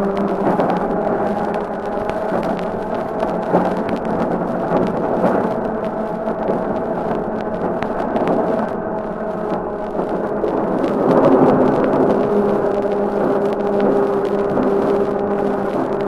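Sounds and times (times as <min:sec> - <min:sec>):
record surface crackle: 0:00.0 - 0:16.0
tram running: 0:00.0 - 0:16.0.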